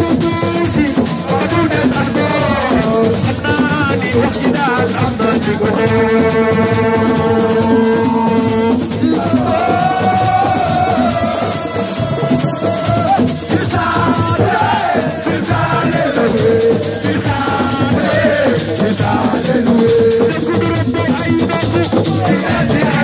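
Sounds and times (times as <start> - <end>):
man singing into microphone: 0.0 - 23.0
music: 0.0 - 23.0
shaking percussion: 0.0 - 23.0.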